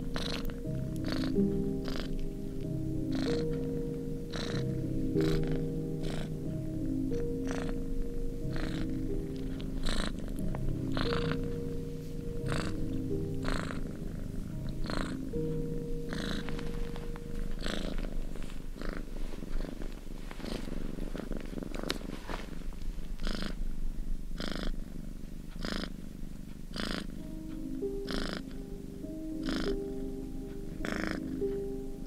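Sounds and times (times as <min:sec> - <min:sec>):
cat purring: 0:00.0 - 0:32.0
soft background music: 0:00.0 - 0:32.0.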